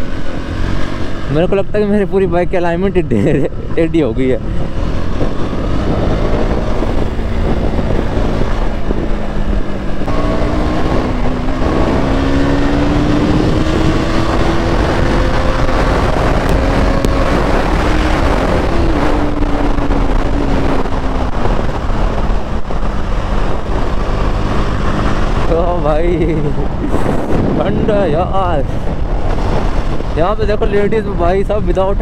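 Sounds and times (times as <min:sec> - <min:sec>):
wind rushing over microphone: 0:00.0 - 0:32.0
motorcycle engine running: 0:04.4 - 0:30.9.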